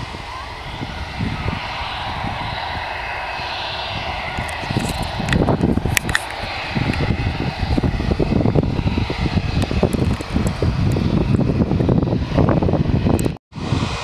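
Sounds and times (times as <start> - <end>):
jet engines hissing: 0.0 - 14.0
wind rumble on microphone: 0.0 - 14.0.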